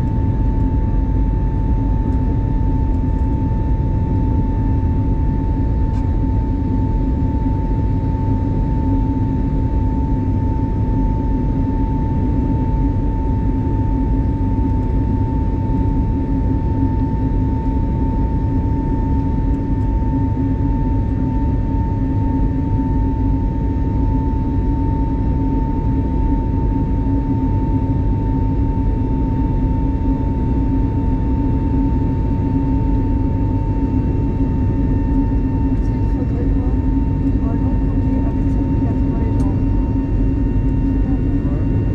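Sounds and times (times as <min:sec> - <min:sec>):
aircraft cabin engine drone: 0:00.0 - 0:41.9
constant high hum: 0:00.0 - 0:41.9.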